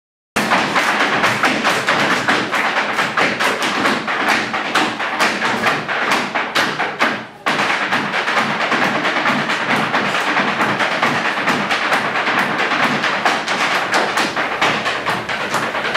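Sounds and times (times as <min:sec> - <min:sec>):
hard shoes tapping on stage: 0:00.4 - 0:15.9.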